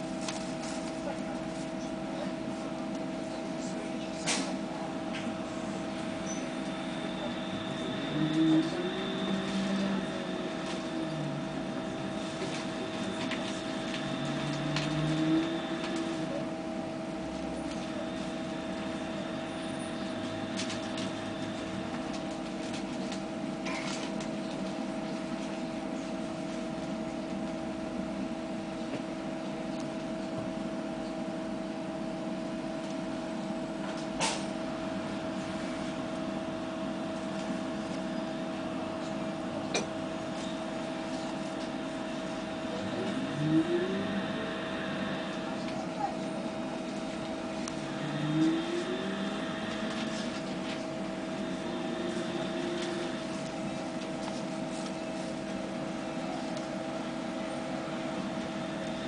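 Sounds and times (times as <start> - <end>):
high steady whine: 0.0 - 25.8, 31.8 - 59.0
trolleybus electrical hum: 0.0 - 59.0.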